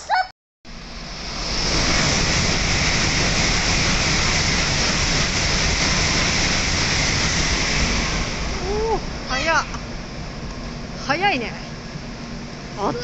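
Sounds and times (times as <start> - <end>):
high-speed train rushing past: 0.7 - 13.0.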